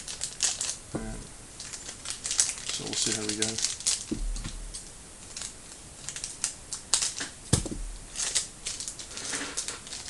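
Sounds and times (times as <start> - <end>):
cards clicking and rustling: 1.6 - 10.0.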